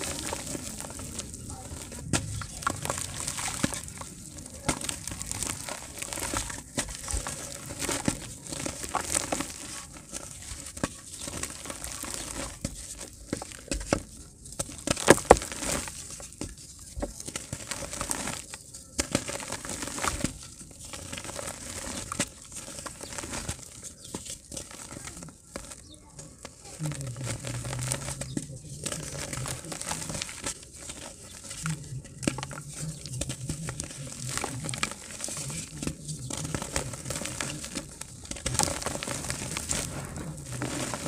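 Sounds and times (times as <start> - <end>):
crumbs falling into plastic tub: 0.0 - 41.0
dirt crumbling gritty crackling: 0.0 - 41.0.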